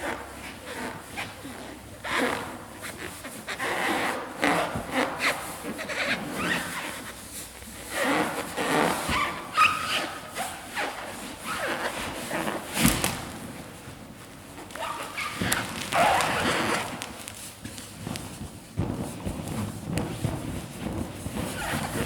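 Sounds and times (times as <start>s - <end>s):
balloon squeaking and rubbing: 0.0s - 22.0s.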